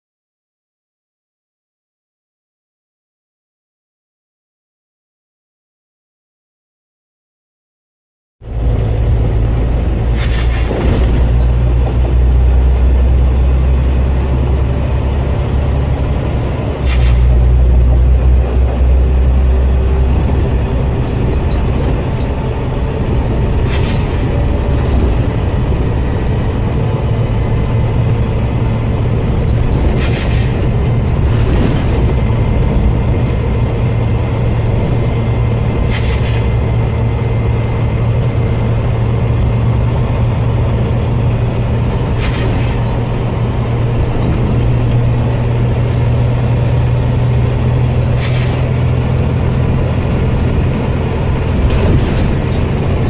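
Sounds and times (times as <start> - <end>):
bus engine drone: 8.4 - 53.0.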